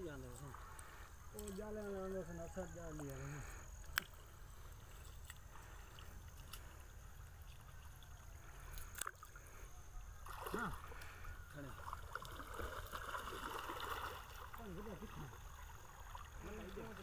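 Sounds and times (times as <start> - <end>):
water sloshing: 0.0 - 17.0.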